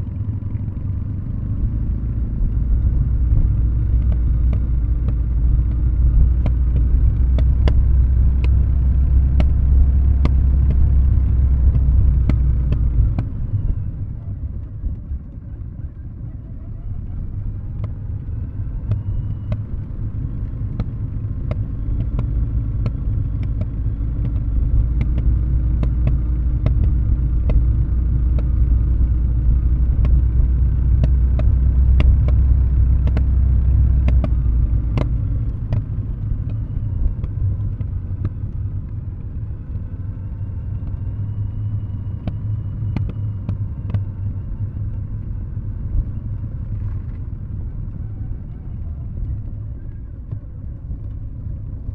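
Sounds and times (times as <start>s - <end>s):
motorcycle exhaust rumble: 0.0s - 51.9s.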